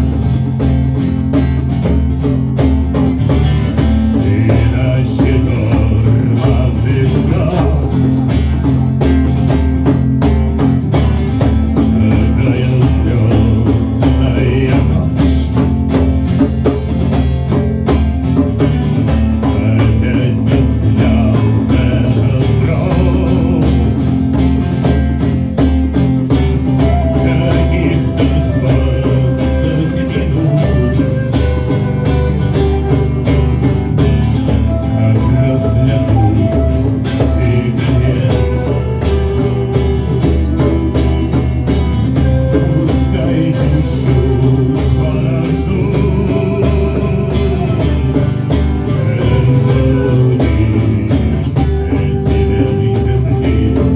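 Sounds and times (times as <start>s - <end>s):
guitar: 0.0s - 53.9s
steady drum beat: 0.0s - 53.9s.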